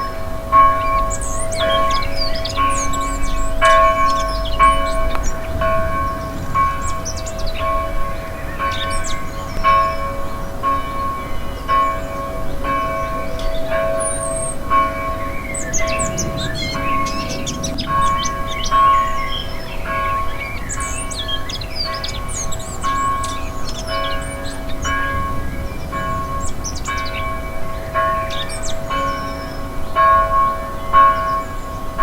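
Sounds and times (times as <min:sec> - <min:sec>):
birds chirping: 0:00.0 - 0:32.0
church bell ringing: 0:00.0 - 0:32.0.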